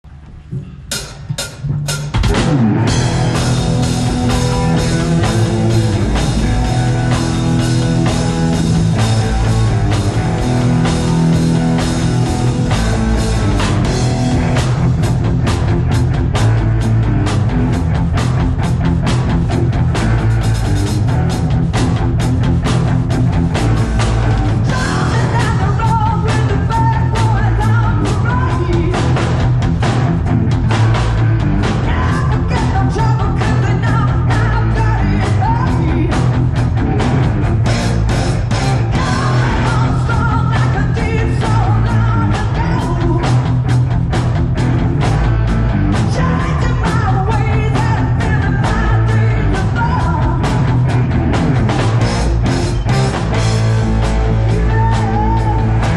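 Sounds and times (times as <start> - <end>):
drum kit beat: 0.3 - 55.9
rock band playing live: 0.5 - 55.9.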